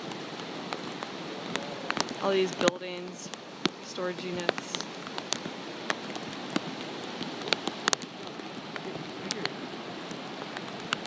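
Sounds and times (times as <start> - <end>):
raindrops tapping close by: 0.0 - 11.0
steady rain hiss: 0.0 - 11.0.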